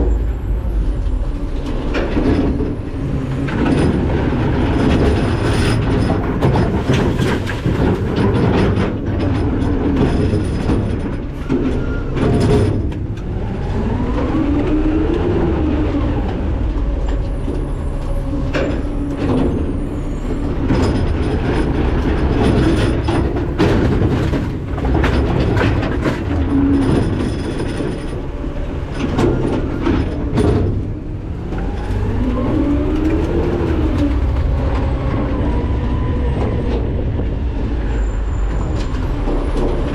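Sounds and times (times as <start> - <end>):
metal clanks and knocks: 0.0 - 13.5, 17.1 - 39.9
garbage truck engine rumbling: 0.0 - 39.9.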